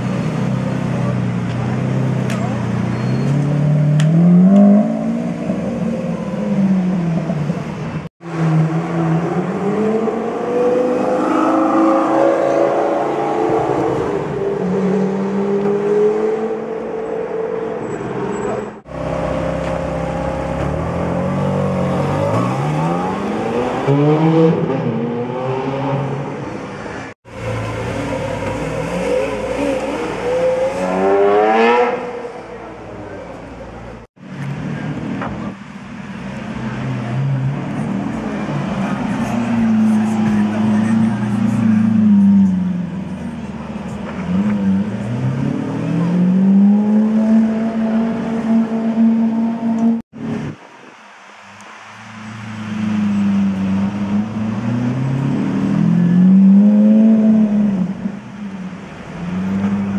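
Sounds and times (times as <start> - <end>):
car engines revving and accelerating: 0.0 - 59.9.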